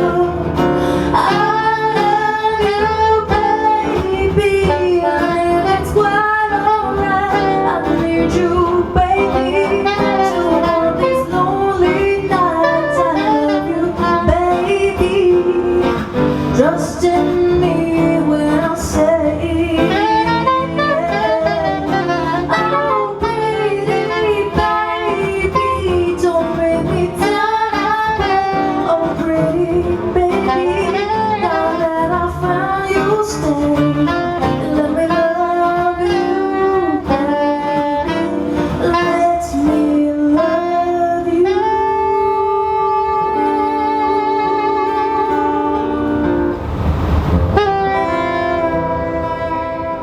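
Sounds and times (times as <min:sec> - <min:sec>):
guitar chords: 0:00.0 - 0:50.0
saxophone melody: 0:00.0 - 0:50.0.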